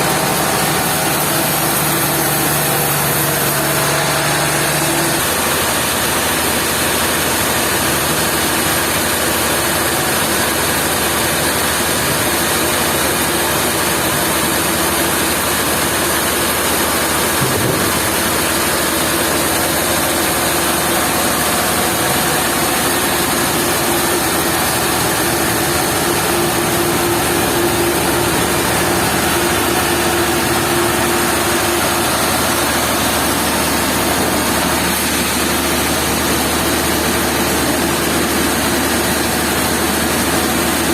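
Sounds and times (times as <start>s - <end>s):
heavy machinery engine running: 0.0s - 40.9s.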